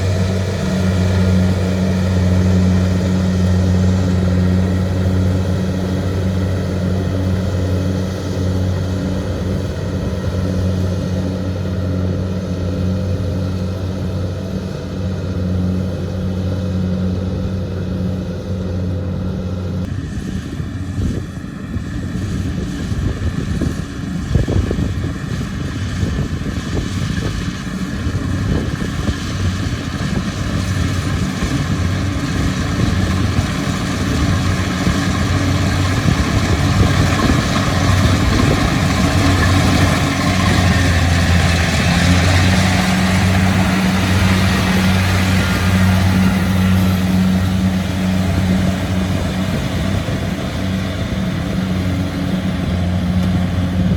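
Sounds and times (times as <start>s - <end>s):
combine harvester engine and threshing: 0.0s - 53.9s
rattling machinery with whine: 0.0s - 53.9s.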